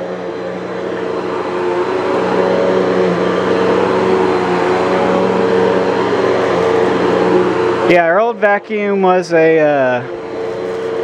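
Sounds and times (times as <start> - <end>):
upright vacuum cleaner running: 0.0 - 11.0.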